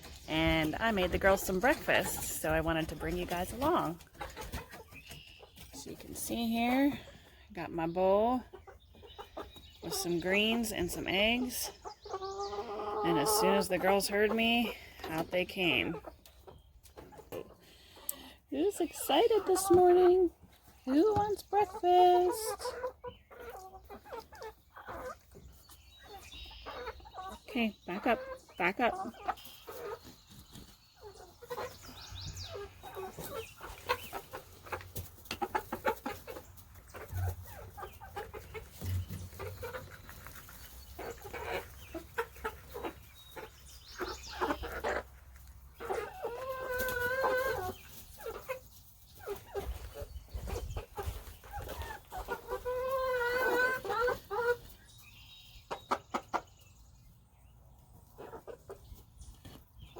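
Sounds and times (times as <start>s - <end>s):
hens clucking: 0.0s - 59.9s.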